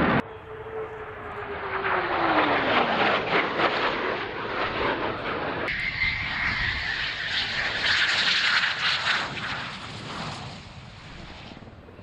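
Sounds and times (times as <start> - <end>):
jet engines whining: 0.0 - 12.0.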